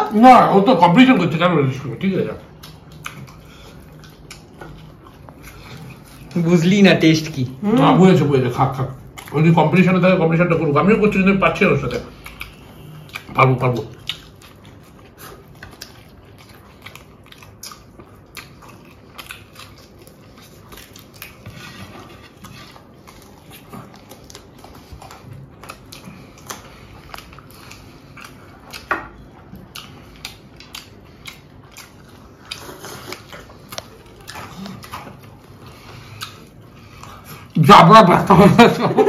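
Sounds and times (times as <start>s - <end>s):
people chewing food: 0.0s - 39.0s.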